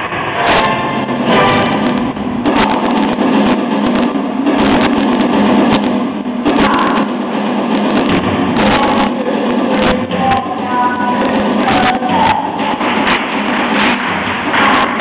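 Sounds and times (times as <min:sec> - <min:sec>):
loud distorted music: 0:00.0 - 0:15.0
sharp knocks: 0:00.0 - 0:15.0.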